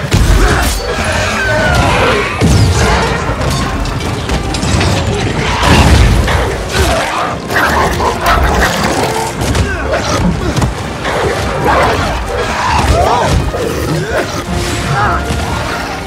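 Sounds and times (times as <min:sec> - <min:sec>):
film score music: 0:00.0 - 0:16.0.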